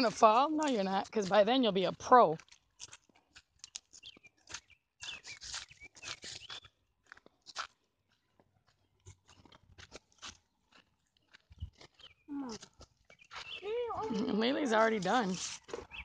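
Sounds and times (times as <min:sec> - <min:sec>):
footsteps crunching on dry leaves: 0:00.0 - 0:08.2, 0:09.2 - 0:16.0.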